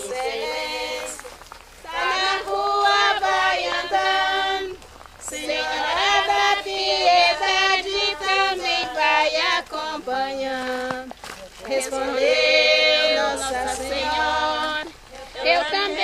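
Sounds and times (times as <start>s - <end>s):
women singing unaccompanied chant: 0.0s - 16.0s.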